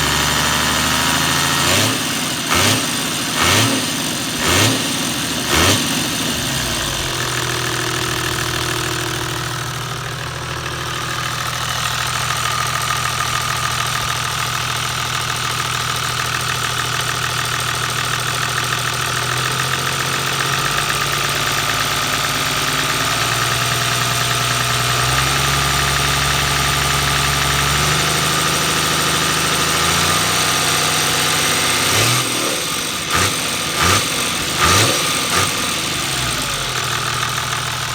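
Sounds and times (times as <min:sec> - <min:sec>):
diesel engine idling with rattle: 0:00.0 - 0:37.9.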